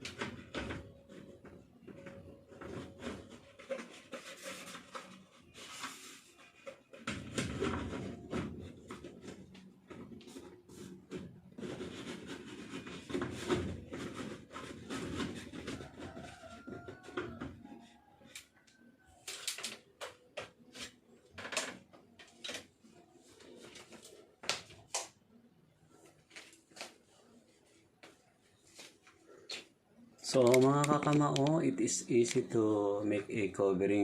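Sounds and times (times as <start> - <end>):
plastic cover rustling and scraping: 0.0 - 18.1, 19.2 - 25.0, 25.9 - 32.6.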